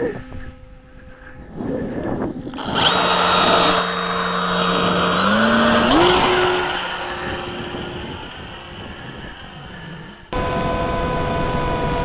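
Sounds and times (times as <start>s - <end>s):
model plane motor whine: 0.0s - 10.4s.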